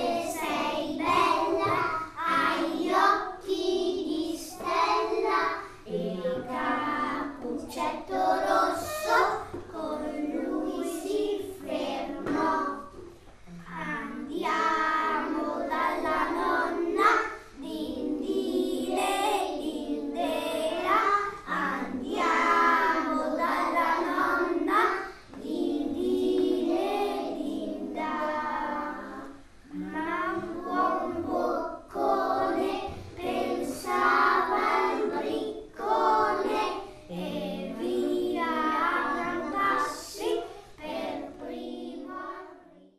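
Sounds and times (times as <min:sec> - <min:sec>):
young children singing: 0:00.0 - 0:42.9.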